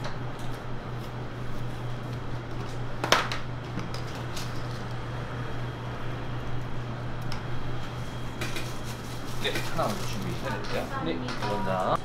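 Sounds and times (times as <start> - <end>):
kitchen machine hum: 0.0 - 12.0.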